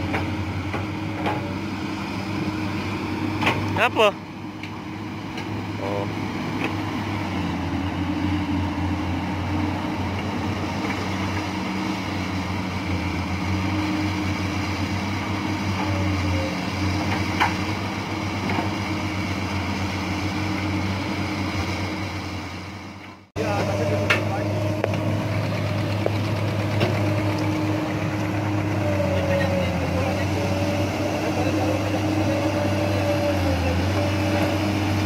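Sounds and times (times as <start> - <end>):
excavator diesel engines droning: 0.0 - 35.0.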